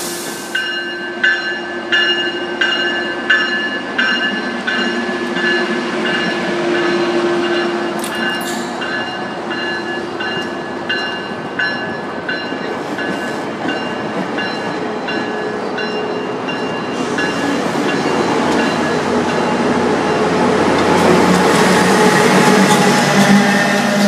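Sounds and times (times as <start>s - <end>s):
diesel locomotive: 0.0s - 24.0s
train coaches rolling past: 0.0s - 24.0s.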